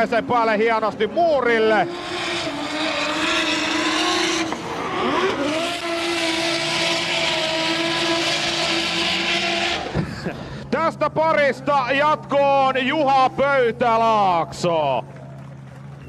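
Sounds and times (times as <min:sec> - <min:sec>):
car engines at high revs: 0:00.0 - 0:16.0.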